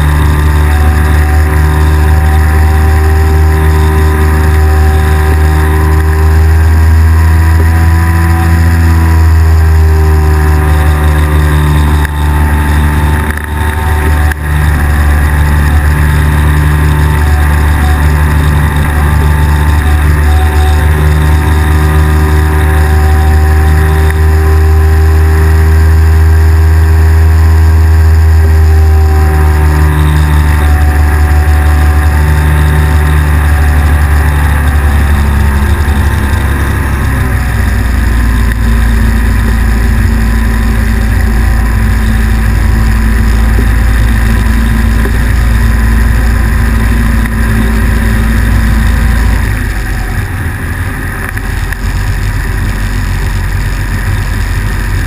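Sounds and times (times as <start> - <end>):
engine and propeller droning: 0.0 - 55.0.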